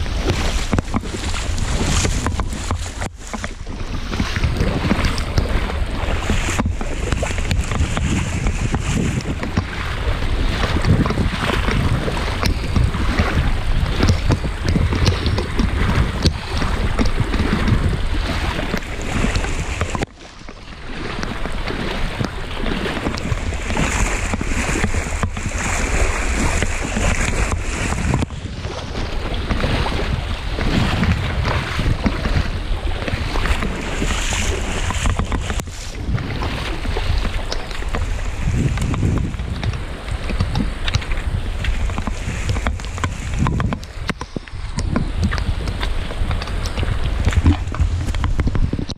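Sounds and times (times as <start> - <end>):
boots splashing through water: 0.0 - 48.9
heavy rain on water: 0.0 - 48.9
wind on microphone: 0.0 - 48.9.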